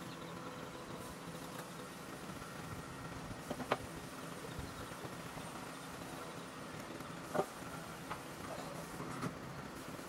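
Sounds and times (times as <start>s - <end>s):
faint workshop hum: 0.0s - 10.0s.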